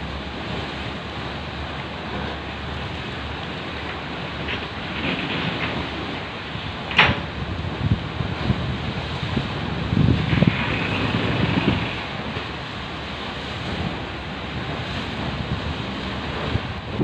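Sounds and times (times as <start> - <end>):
waves splashing against seawall: 0.0 - 17.0
wind buffeting microphone: 0.0 - 17.0.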